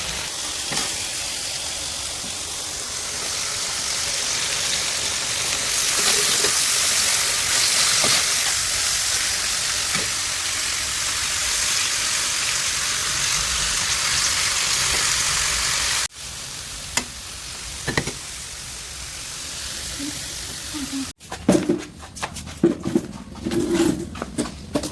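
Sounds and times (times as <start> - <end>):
food sizzling in a hot pan: 0.0 - 21.2.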